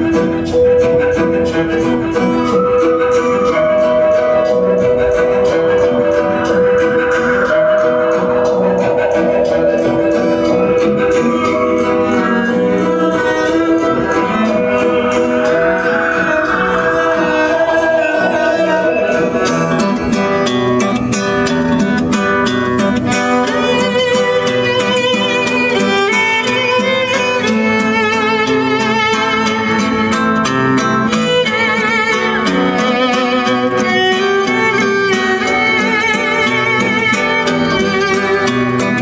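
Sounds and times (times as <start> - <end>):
violin and guitar music on car stereo: 0.0 - 39.0.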